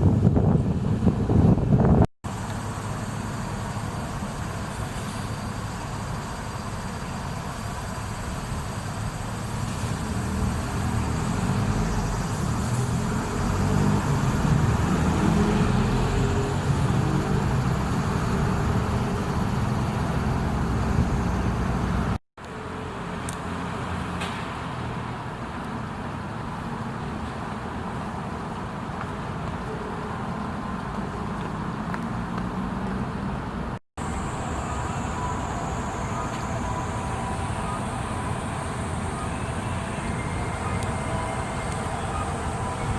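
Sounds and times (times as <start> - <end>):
passing traffic rumble: 0.0 - 42.9.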